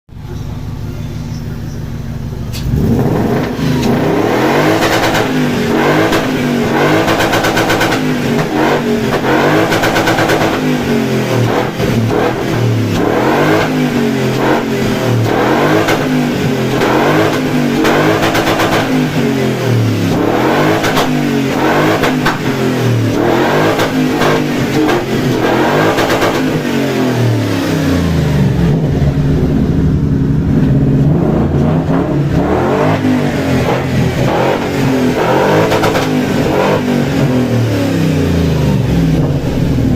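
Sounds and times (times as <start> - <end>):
car engine idling and revving: 0.1 - 39.9.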